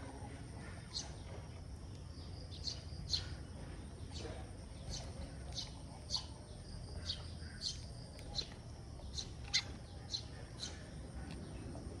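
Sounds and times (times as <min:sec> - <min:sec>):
faint low hum: 0:00.0 - 0:12.0
sparrows chirping: 0:00.0 - 0:12.0.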